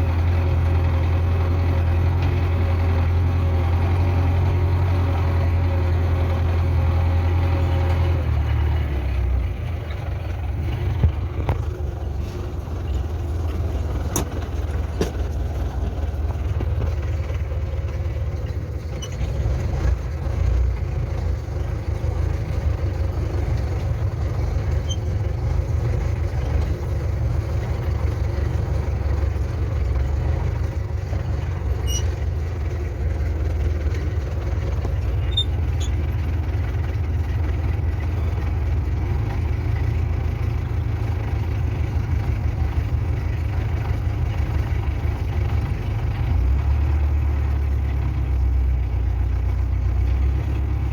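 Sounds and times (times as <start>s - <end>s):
tractor engine droning: 0.0s - 50.9s.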